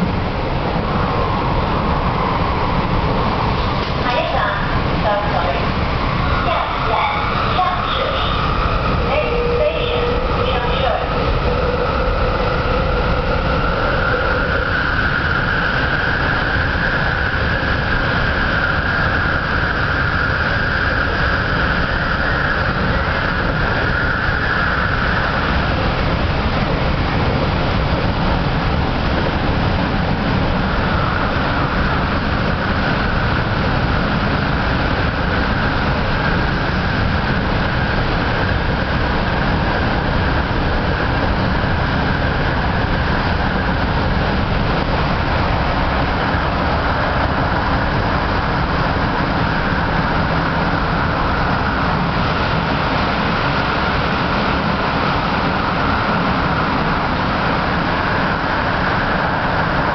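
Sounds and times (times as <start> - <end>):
high whine: 0.0 - 59.9
train wheels rumbling on rail: 0.0 - 59.9.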